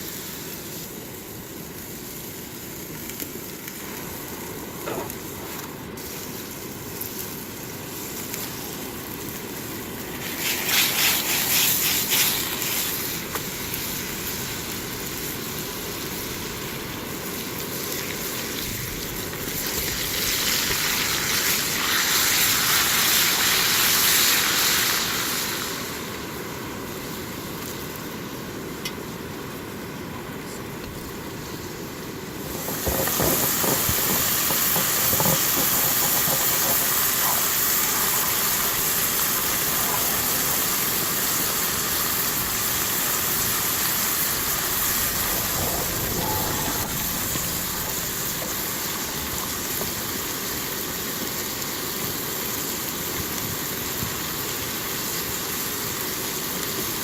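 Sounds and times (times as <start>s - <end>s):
food sizzling in a frying pan: 0.0s - 29.8s, 30.9s - 57.0s
campfire crackling: 0.0s - 57.0s.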